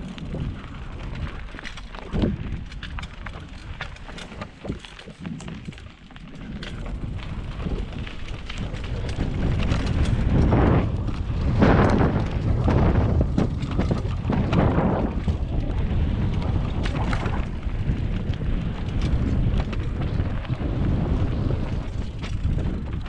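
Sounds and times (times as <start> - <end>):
bike rattling clicks: 0.0 - 23.0
tyres rolling on dirt: 0.0 - 23.0
wind rushing over microphone: 0.0 - 23.0.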